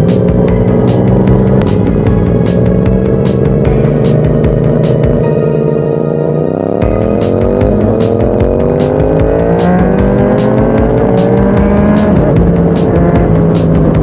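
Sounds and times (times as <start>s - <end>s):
motorcycle engine accelerating hard: 0.0s - 14.0s.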